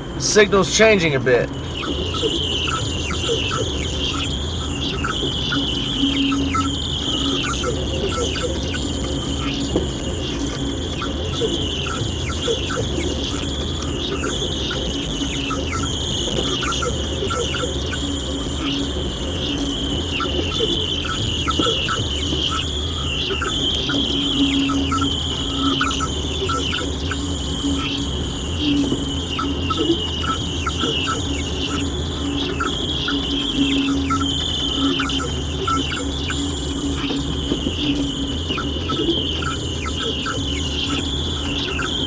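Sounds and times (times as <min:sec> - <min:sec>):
radio static hiss: 0:00.0 - 0:42.0
rapid chirps and clicks: 0:00.0 - 0:42.0.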